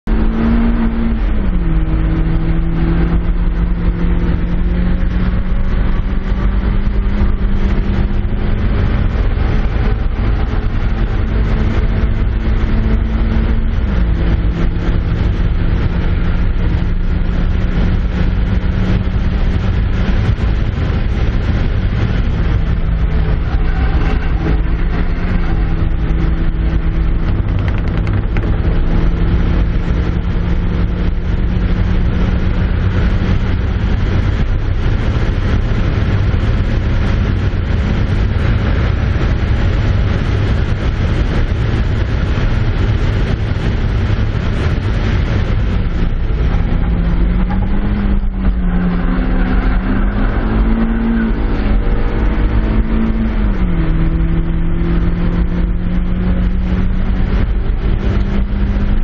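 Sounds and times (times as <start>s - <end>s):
car engine running hard: 0.0s - 59.0s
wind noise: 0.0s - 59.0s.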